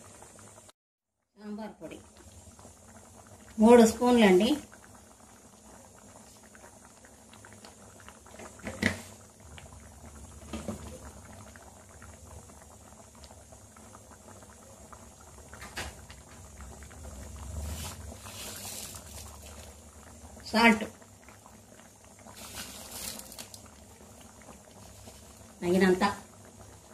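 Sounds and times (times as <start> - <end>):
sambar bubbling in a pan: 0.0 - 26.9.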